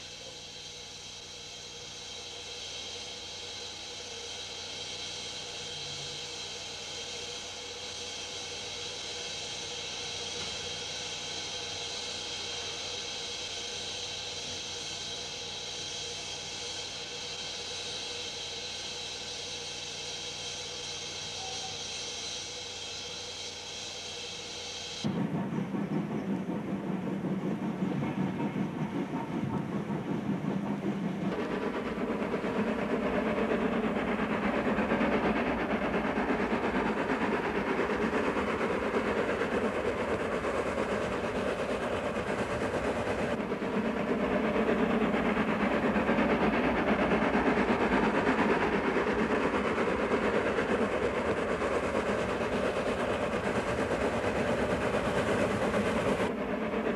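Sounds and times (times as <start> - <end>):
steam locomotive exhaust: 0.0 - 56.9.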